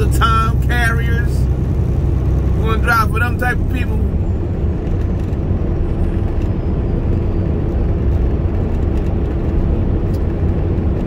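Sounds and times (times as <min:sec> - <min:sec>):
truck diesel engine droning: 0:00.0 - 0:11.0
tyre and road rumble: 0:00.0 - 0:11.0.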